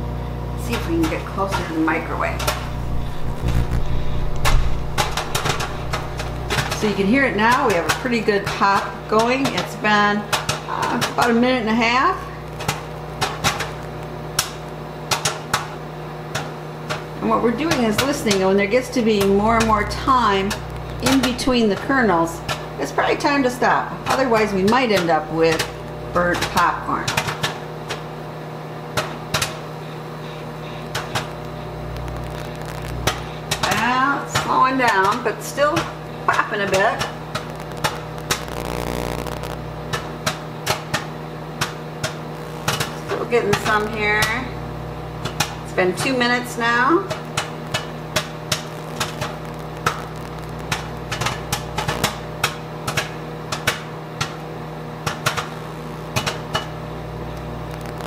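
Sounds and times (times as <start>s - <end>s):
microwave oven hum: 0.0s - 58.0s
popcorn popping: 0.6s - 58.0s.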